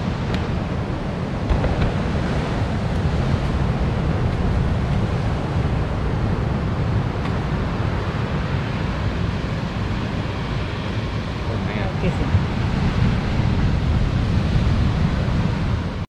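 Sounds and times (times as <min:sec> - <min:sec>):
surf on the beach: 0:00.0 - 0:16.0
wind rumbling on microphone: 0:00.0 - 0:16.0.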